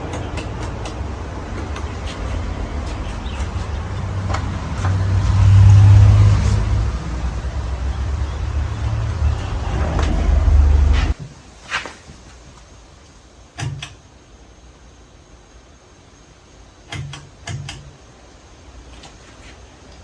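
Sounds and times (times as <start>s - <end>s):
ceiling fan running: 0.0s - 20.0s.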